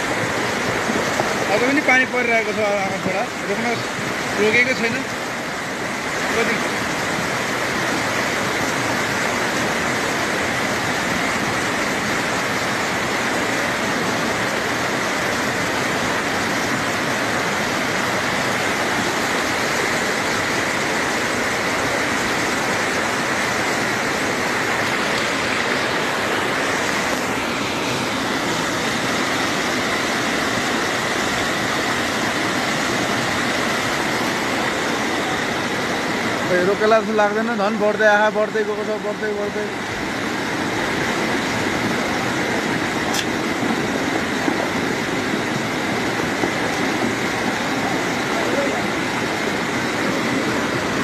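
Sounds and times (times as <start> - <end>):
floodwater roaring down street: 0.0 - 51.0.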